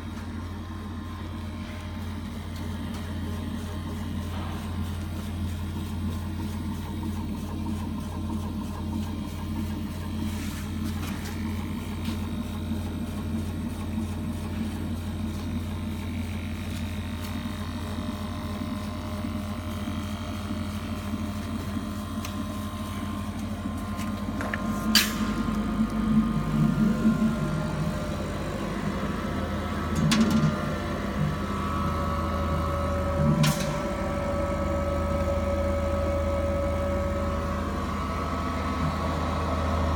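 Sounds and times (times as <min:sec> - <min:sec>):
laser cutter mechanical hum: 0:00.0 - 0:39.9
whining motor tones: 0:00.0 - 0:39.9.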